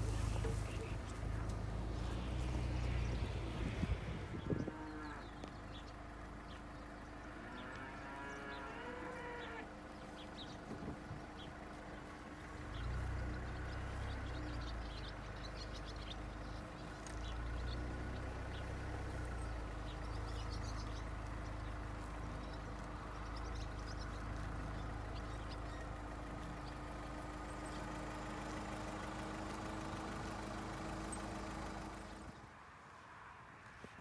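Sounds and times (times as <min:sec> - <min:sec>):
engine idling: 0:00.0 - 0:32.5
faint birds chirping: 0:00.0 - 0:34.0.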